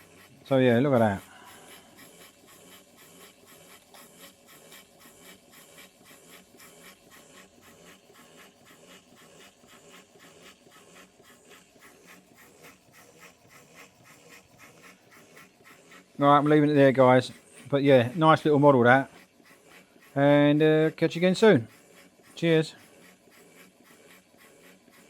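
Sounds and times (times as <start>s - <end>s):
steam engine running: 0.0s - 25.0s.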